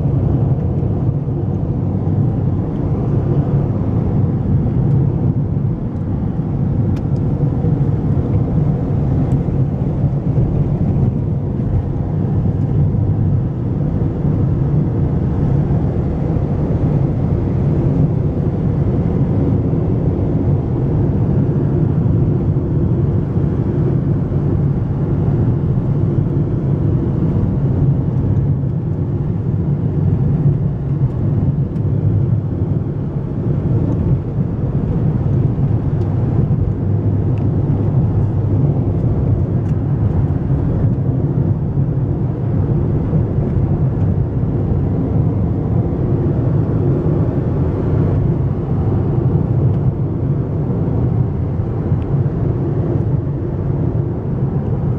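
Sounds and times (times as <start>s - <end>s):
car engine and tyre noise: 0.0s - 54.9s.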